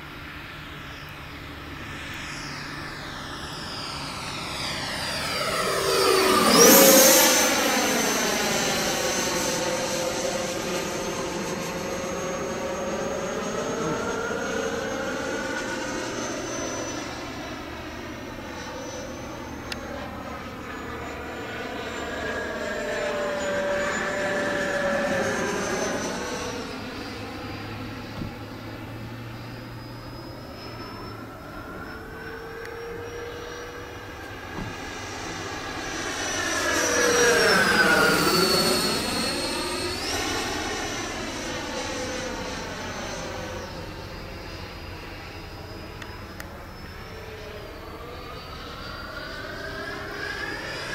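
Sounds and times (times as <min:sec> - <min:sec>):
model jet ducted fan whining: 0:00.0 - 0:50.9.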